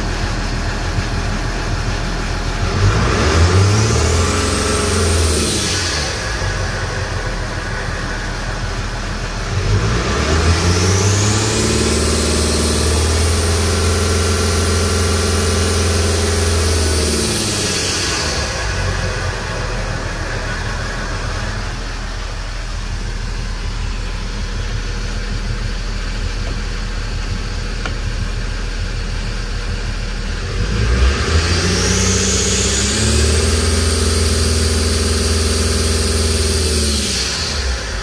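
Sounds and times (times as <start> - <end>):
diesel engine idling and revving: 0.0 - 38.0.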